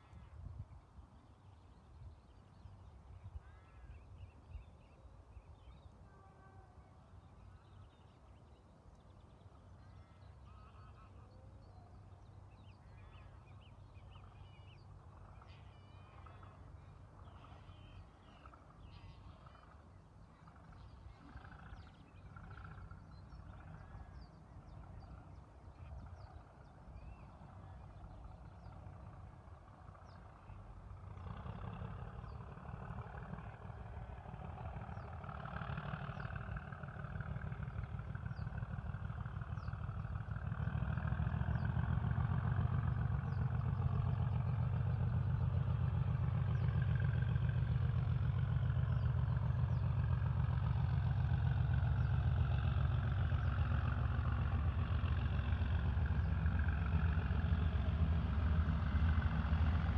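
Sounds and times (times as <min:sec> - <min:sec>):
low steady rumble: 0:00.0 - 0:59.9
birds calling: 0:07.4 - 0:59.9.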